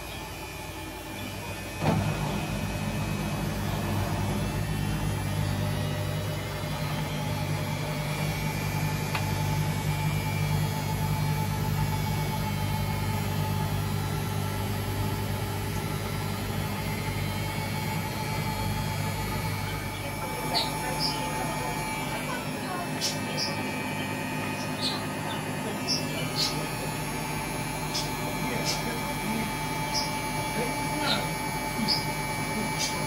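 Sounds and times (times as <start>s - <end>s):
washing machine hum: 0.0s - 33.0s.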